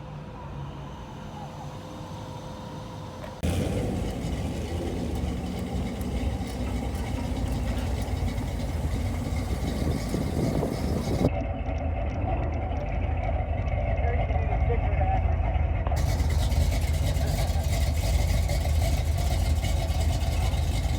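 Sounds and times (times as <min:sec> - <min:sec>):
vehicle engine rumbling: 0:01.2 - 0:20.9.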